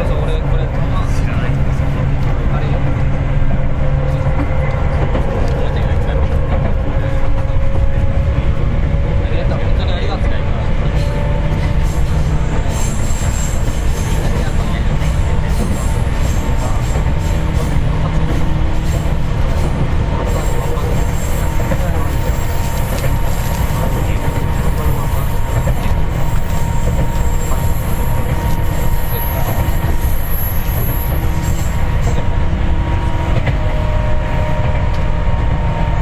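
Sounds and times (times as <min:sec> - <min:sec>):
wheels rumbling on rail: 0:00.0 - 0:36.0.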